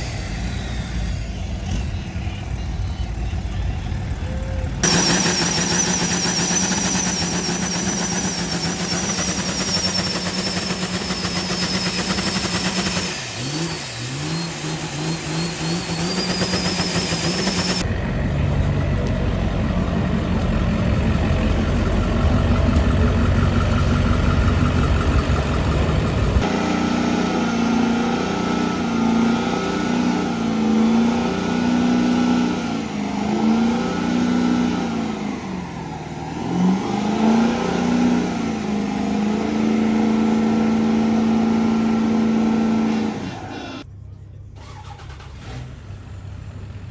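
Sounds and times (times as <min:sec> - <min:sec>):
engines revving: 0:00.0 - 0:43.9
truck engine rumbling: 0:00.0 - 0:46.9.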